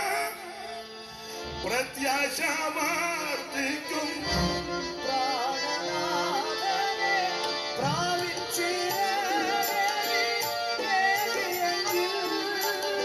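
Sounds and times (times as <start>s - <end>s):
held instrumental notes: 0.0s - 13.0s
person singing: 0.0s - 13.0s.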